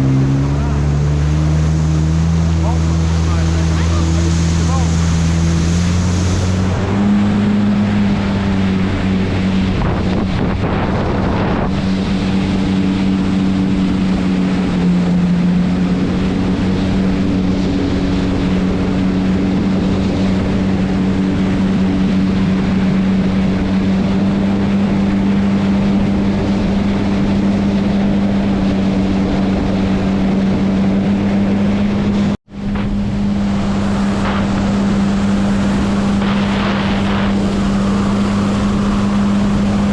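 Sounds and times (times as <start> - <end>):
jet ski engine running: 0.0 - 39.9
water rushing: 0.0 - 39.9
wind buffeting microphone: 0.0 - 39.9.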